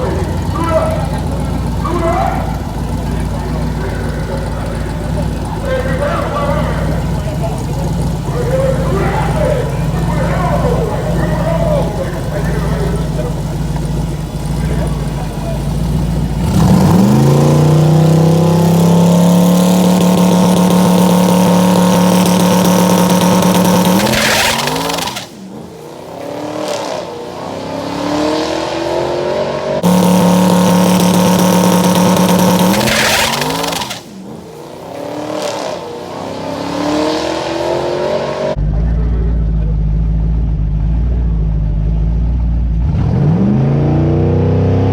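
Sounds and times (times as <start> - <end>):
motorcycle engine revving: 0.0 - 44.9
tire spinning in burnout: 0.0 - 44.9.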